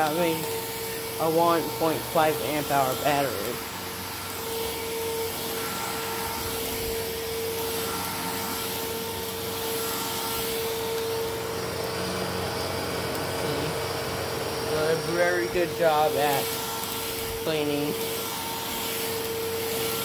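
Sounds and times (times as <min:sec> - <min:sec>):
vacuum cleaner running over carpet: 0:00.0 - 0:20.0.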